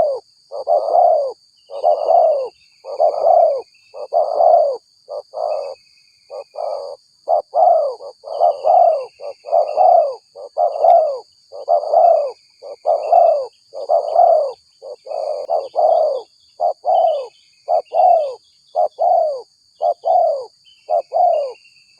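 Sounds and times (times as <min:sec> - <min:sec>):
dove cooing: 0:00.0 - 0:22.0
high insect drone: 0:00.0 - 0:22.0
small birds chirping: 0:00.0 - 0:22.0.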